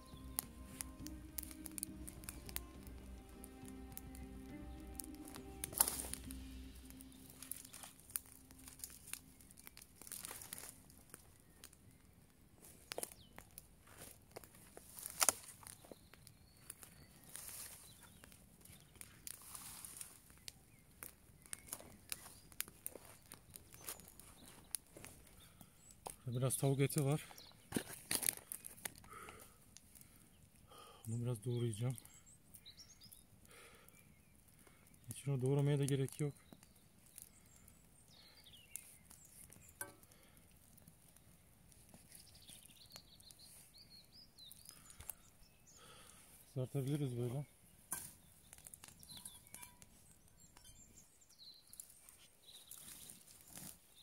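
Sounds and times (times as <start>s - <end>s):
faint bird song: 0.0s - 14.2s, 14.9s - 54.0s
campfire crackling and popping: 0.0s - 54.0s.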